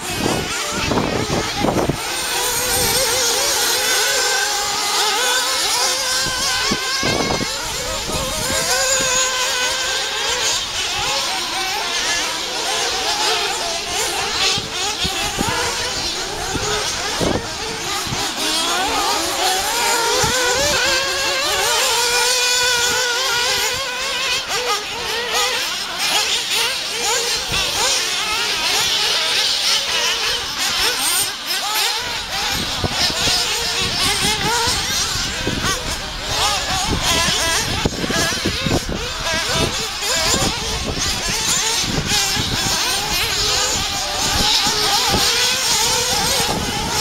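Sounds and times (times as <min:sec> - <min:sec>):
rc buggy motors whining: 0:00.0 - 0:47.0.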